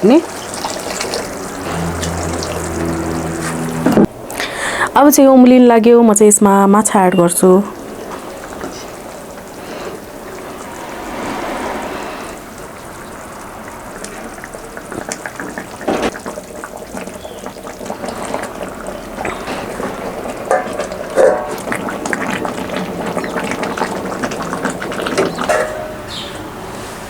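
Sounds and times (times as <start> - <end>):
curry bubbling in a pan: 0.0 - 4.1, 7.4 - 25.8.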